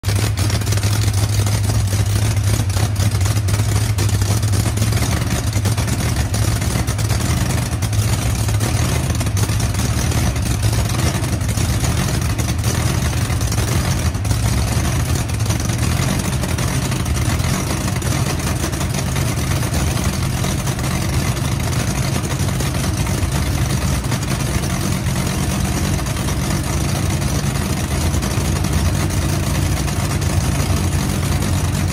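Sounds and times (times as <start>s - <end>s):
race car engine idling loudly: 0.0s - 31.9s.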